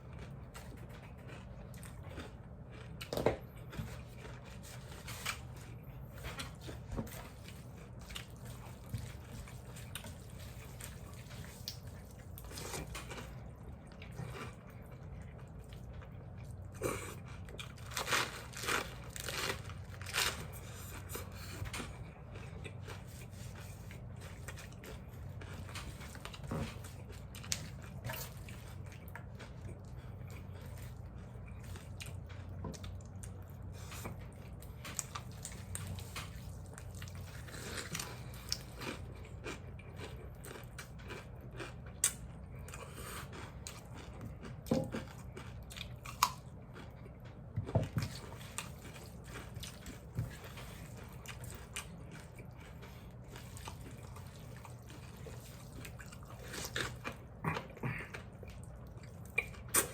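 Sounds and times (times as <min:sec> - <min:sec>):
people chewing noodles: 0:00.0 - 0:59.9
steady low hum: 0:00.0 - 0:59.9.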